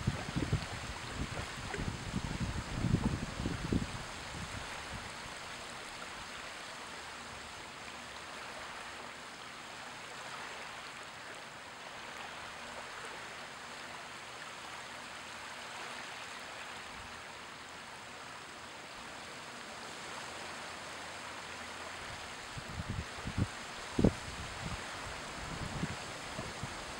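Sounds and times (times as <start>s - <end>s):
small waves washing over sand: 0.0s - 26.9s.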